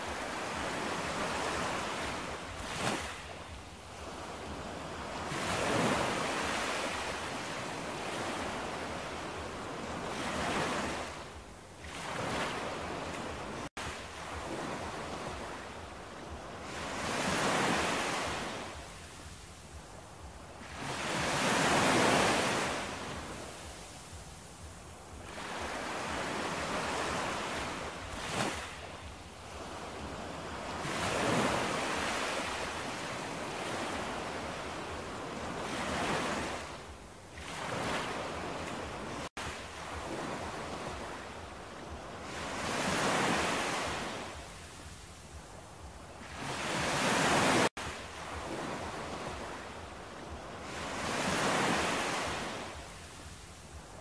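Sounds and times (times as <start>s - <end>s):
ocean waves washing in: 0.0s - 54.0s.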